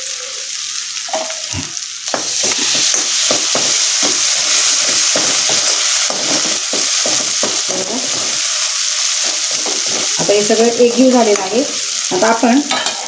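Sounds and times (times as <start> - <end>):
hot oil sizzling: 0.0 - 13.0.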